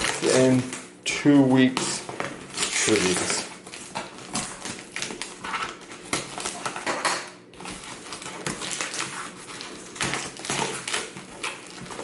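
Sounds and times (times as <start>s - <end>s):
plastic packaging clicking and rustling: 0.0s - 12.0s.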